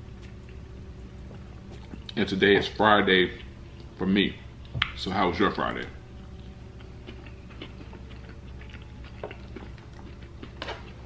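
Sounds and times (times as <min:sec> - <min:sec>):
man chewing food: 0:00.0 - 0:05.1, 0:06.0 - 0:11.0.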